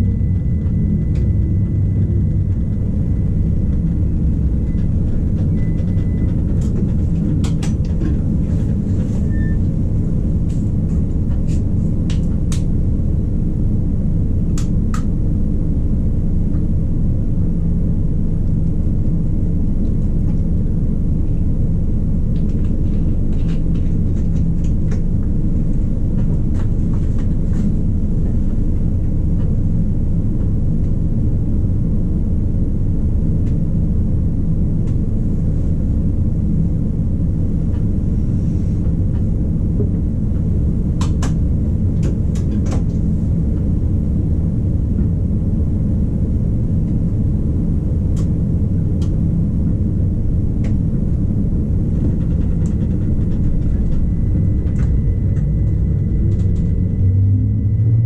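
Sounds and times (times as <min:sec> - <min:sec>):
electric railcar rumbling: 0:00.0 - 0:58.0.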